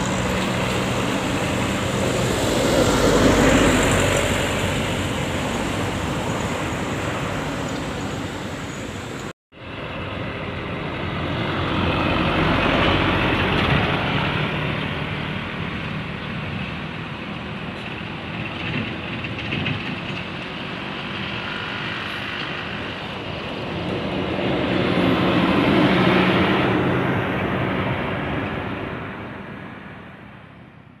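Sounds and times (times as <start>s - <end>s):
heavy vehicle passing by: 0.0s - 31.0s.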